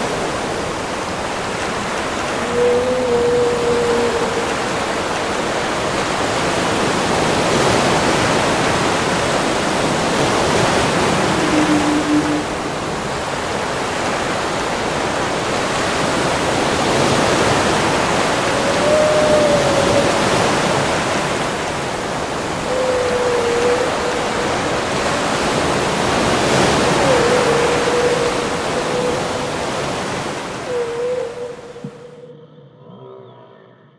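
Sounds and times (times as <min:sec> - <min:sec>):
ocean surf rushing: 0:00.0 - 0:32.4
whale song moans: 0:01.8 - 0:15.0, 0:16.0 - 0:33.9.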